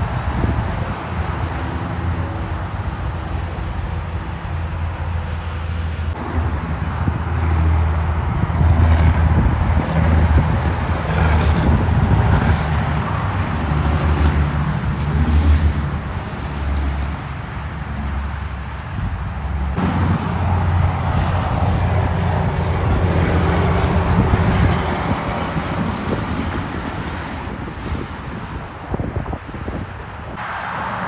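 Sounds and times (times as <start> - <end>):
traffic passing: 0.0 - 31.0
truck tyre and engine noise: 0.0 - 31.0
wind buffeting microphone: 0.0 - 31.0.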